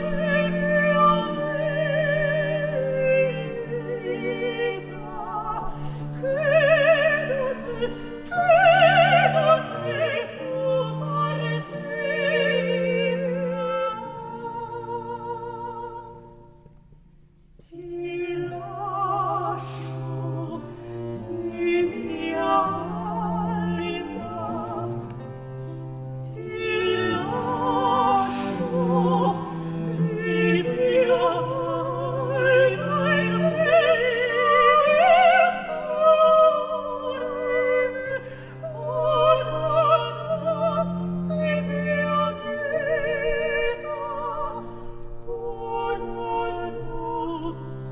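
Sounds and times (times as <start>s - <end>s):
operatic singing with vibrato: 0.0s - 16.3s, 17.6s - 25.3s, 26.2s - 47.9s.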